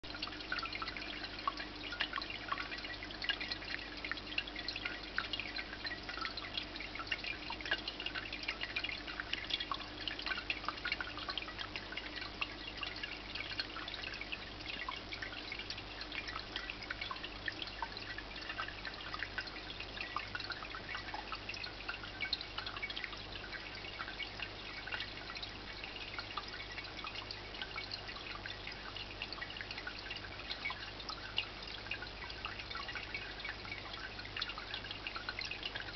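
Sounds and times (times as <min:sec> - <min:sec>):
water fountain trickling: 0:00.0 - 0:35.9.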